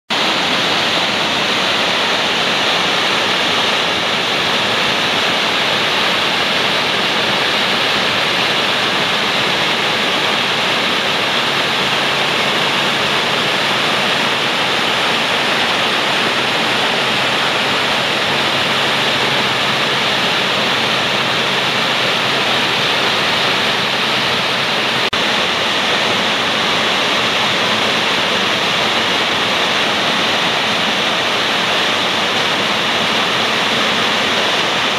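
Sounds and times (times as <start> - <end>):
stream rushing over stones: 0.1 - 34.9.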